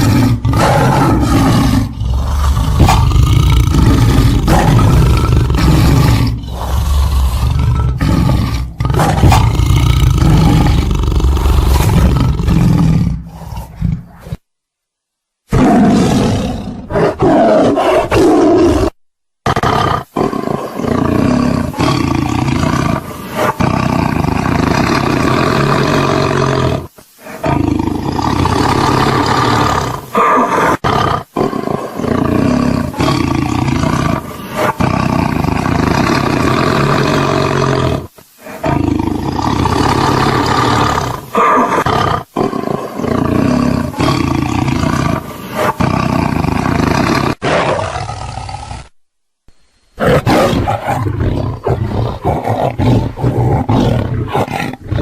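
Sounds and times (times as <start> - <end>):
tiger roaring and growling: 0.0 - 14.4, 15.5 - 48.9, 50.0 - 55.0.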